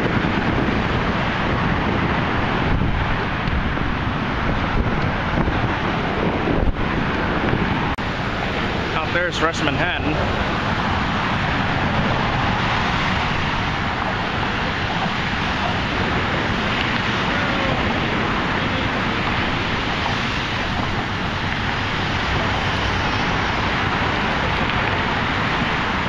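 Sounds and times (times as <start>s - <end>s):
traffic rumble: 0.0s - 26.0s
wind buffeting microphone: 0.0s - 26.0s.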